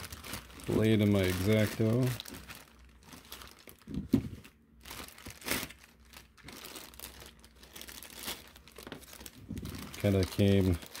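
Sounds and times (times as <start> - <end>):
plastic bags crinkling and tearing: 0.0 - 11.0.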